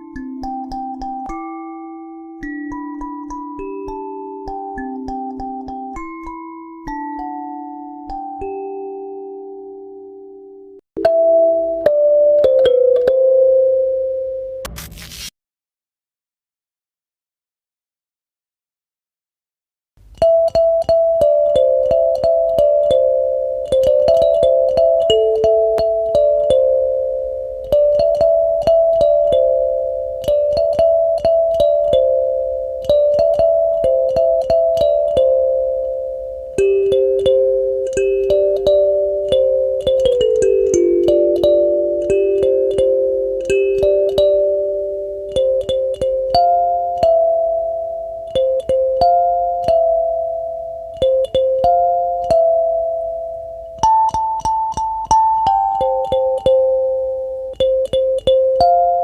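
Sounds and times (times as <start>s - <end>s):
gentle plucked melody: 0.0s - 14.6s, 20.0s - 59.0s.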